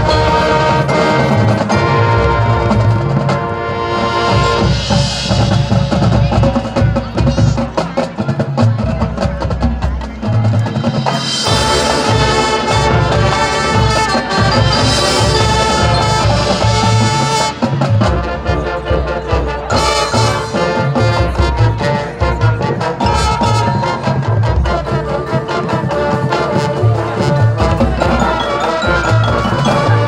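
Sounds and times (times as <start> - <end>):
brass section chords: 0.0 - 5.6, 11.2 - 30.0
marching band drums and percussion: 0.0 - 30.0.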